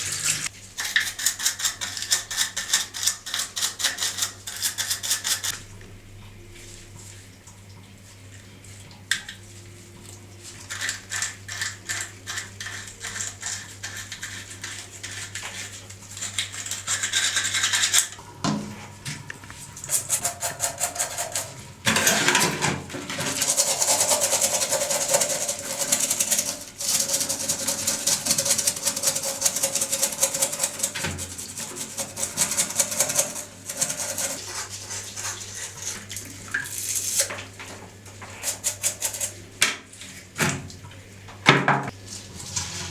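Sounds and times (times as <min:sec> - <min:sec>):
hand scrubbing a horn: 0:00.0 - 0:05.6, 0:09.6 - 0:39.5.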